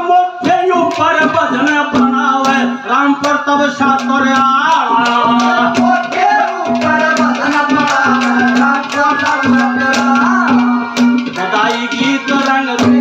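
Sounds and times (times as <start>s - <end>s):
hand drum quick rhythm: 0.4s - 13.0s.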